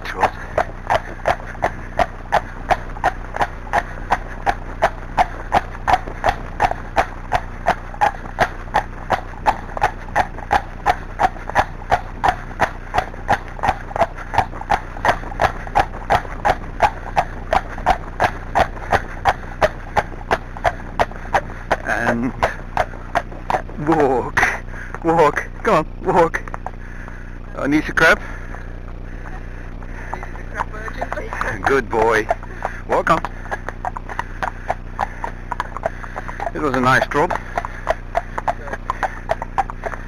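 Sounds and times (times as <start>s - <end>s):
horse hooves trotting on pavement: 0.0s - 40.0s.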